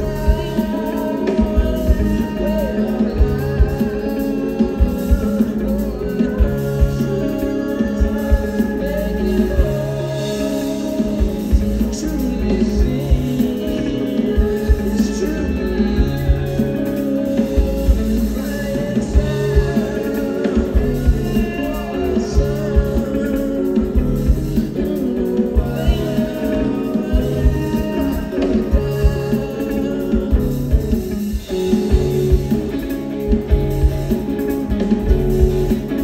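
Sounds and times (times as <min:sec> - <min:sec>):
bass line: 0:00.0 - 0:36.0
drum beat: 0:00.0 - 0:36.0
guitar: 0:00.0 - 0:36.0
person singing: 0:00.0 - 0:36.0.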